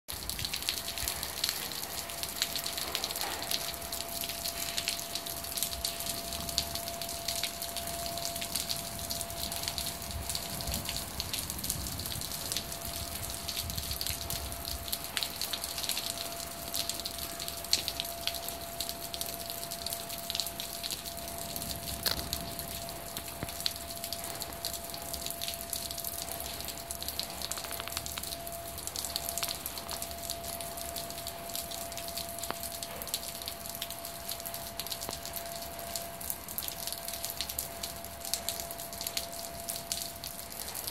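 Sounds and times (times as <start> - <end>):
raindrops ticking: 0.1 - 40.9
steady rain: 0.1 - 40.9.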